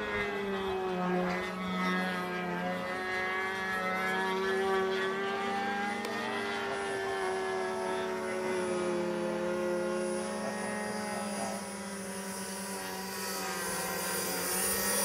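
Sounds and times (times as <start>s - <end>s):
model jet engine whine: 0.0s - 15.0s.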